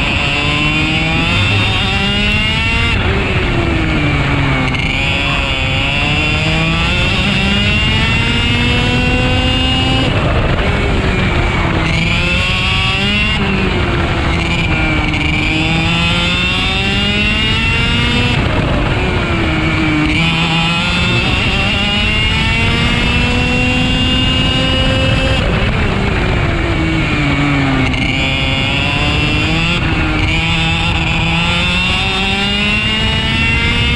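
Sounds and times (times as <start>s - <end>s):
kart engine racing: 0.0s - 33.9s.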